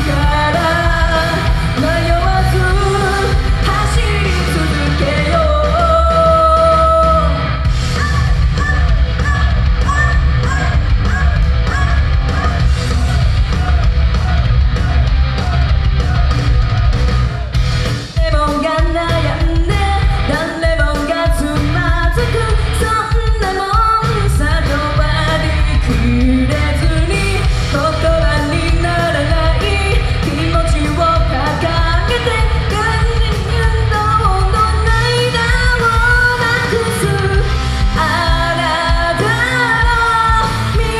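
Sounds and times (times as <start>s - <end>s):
woman singing into microphone: 0.0s - 12.6s, 18.2s - 40.9s
rock-pop backing music: 0.0s - 40.9s.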